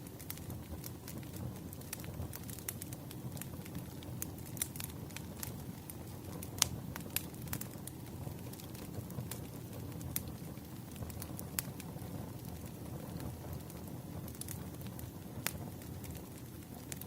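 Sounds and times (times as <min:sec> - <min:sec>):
low fire rumble: 0:00.0 - 0:17.0
wood fire pops and snaps: 0:00.0 - 0:17.0.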